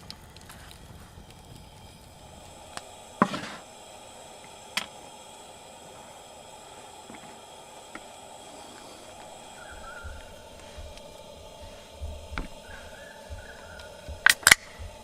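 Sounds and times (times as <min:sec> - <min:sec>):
campfire crackling and popping: 0:00.0 - 0:15.0
low fire hiss: 0:00.0 - 0:15.0.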